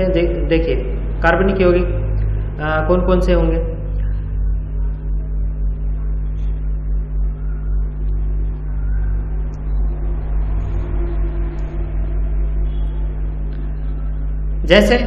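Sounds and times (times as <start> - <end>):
steady low hum: 0.0 - 15.0
uneven low rumble: 0.0 - 15.0.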